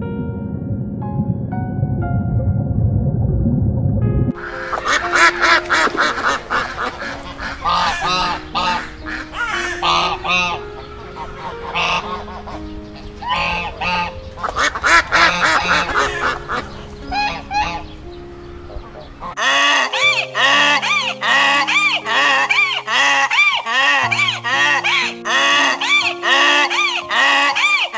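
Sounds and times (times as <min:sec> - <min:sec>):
ducks quacking: 0:04.4 - 0:27.9.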